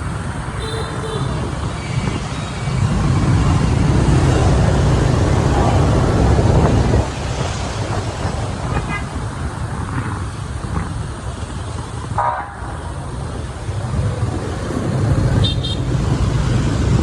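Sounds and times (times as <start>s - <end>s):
road traffic: 0.0s - 17.0s
wind rumble on microphone: 1.3s - 17.0s.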